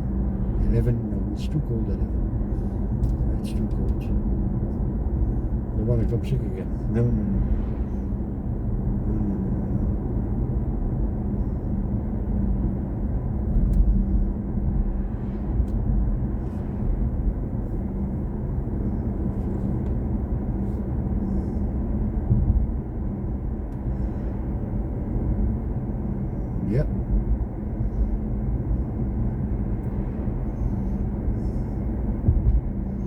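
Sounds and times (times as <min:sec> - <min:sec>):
faint steady hum: 0:00.0 - 0:33.0
road and tyre rumble: 0:00.0 - 0:33.0.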